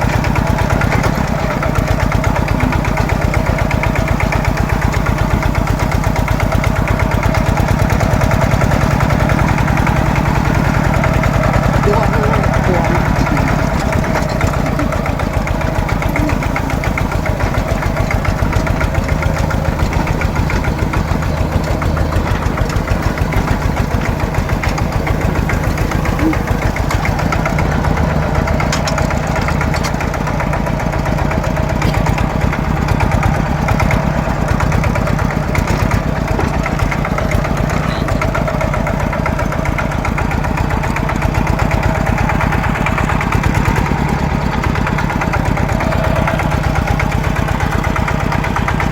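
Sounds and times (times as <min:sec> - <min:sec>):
farm machinery engine running: 0:00.0 - 0:48.9.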